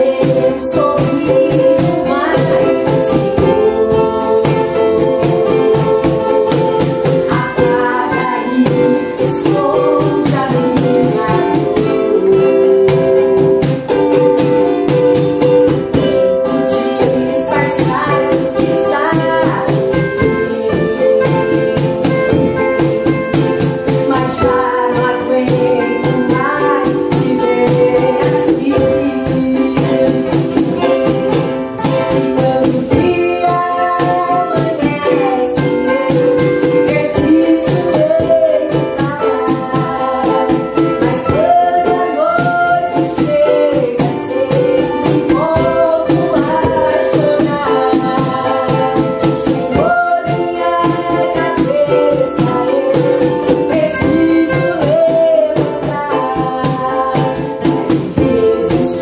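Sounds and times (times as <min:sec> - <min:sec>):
acoustic guitar strumming: 0:00.0 - 0:59.0
cajon beat: 0:00.0 - 0:59.0
ukulele: 0:00.0 - 0:59.0
woman singing: 0:00.0 - 0:59.0.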